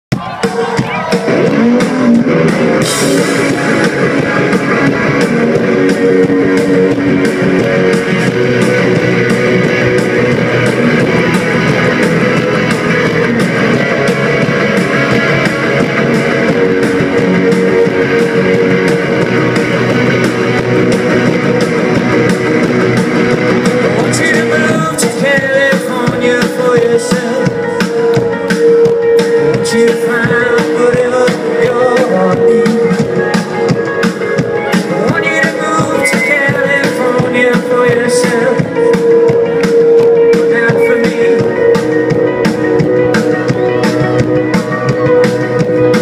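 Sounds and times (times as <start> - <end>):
rock band playing live: 0.1 - 46.0.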